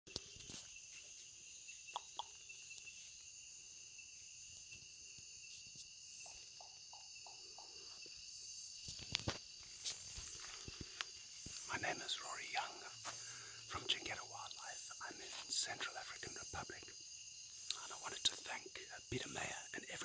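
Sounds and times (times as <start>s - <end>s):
chorus of insects: 0.1s - 20.0s.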